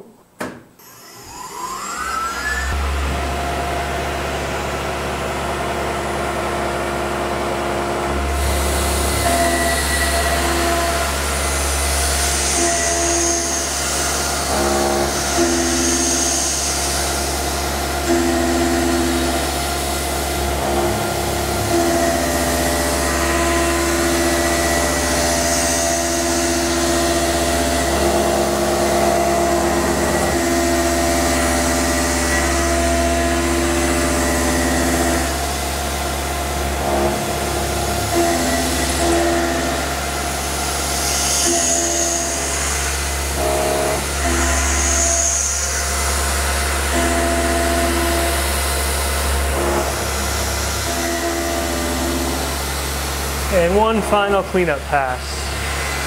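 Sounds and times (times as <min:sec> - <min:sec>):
end mill cutting tones: 0:00.4 - 0:56.0
milling machine hum: 0:00.8 - 0:56.0.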